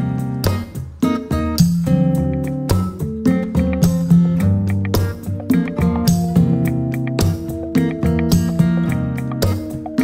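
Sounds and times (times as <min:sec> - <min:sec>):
strummed guitar music: 0:00.0 - 0:10.0.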